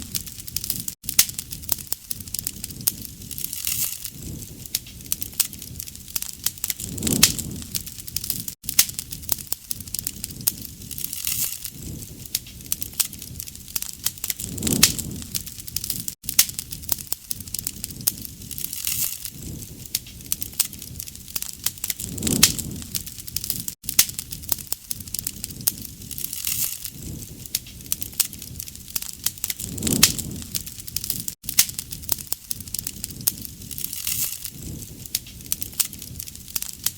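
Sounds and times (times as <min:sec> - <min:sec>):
bonfire crackling and popping: 0:00.0 - 0:36.9
flames whooshing: 0:00.0 - 0:36.9.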